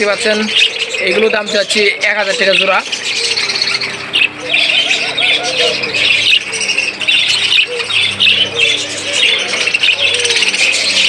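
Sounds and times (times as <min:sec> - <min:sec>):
budgerigars chattering and chirping: 0:00.0 - 0:11.0.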